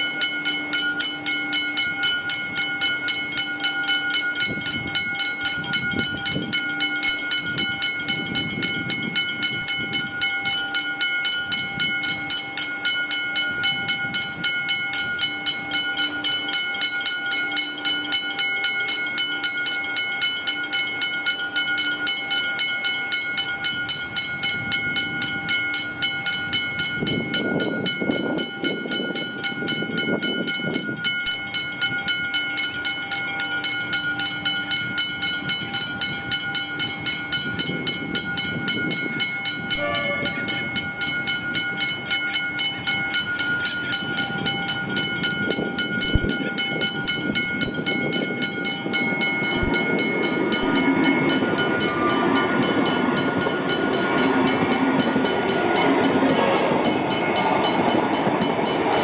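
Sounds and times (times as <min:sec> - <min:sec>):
level crossing bells ringing: 0:00.0 - 0:59.0
train rumble: 0:00.0 - 0:59.0.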